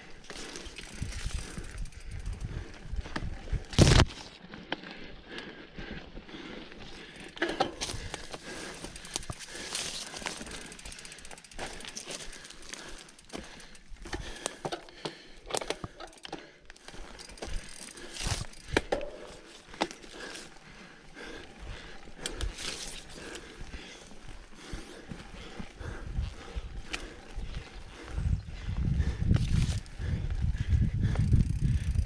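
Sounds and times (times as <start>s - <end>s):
bike chain clicking and rattling: 0.0s - 32.0s
bike tyres on trail: 0.0s - 32.0s.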